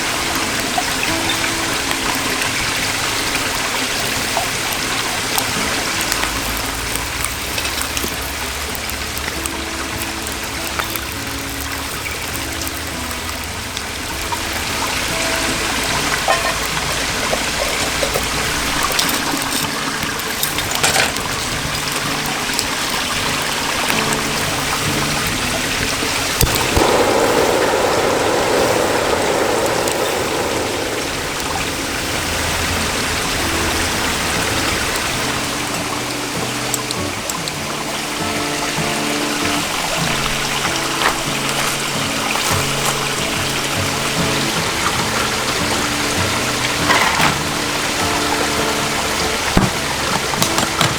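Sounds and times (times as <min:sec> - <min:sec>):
stream flowing over rocks: 0:00.0 - 0:50.9.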